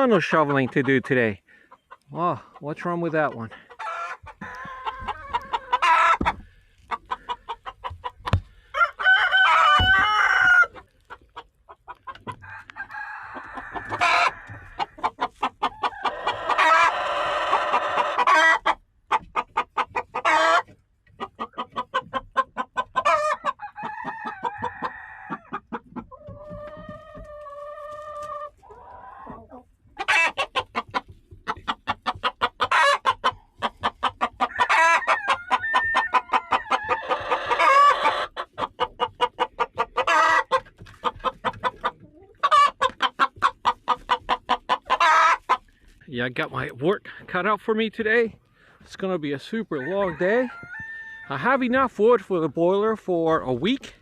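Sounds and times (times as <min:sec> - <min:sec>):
long drawn-out chicken calls: 0:00.0 - 0:46.0, 0:49.5 - 0:51.5
chickens clucking: 0:00.0 - 0:54.0.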